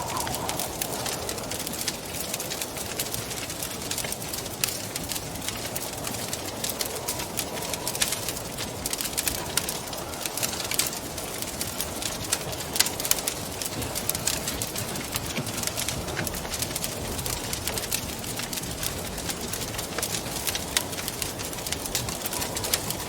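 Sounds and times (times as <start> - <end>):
rushing of flames and wind: 0.0 - 23.0
wood fire crackling and popping: 0.0 - 23.0.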